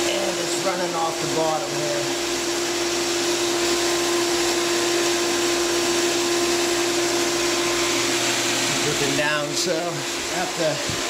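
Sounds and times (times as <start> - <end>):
pool pump whirring: 0.0 - 11.0.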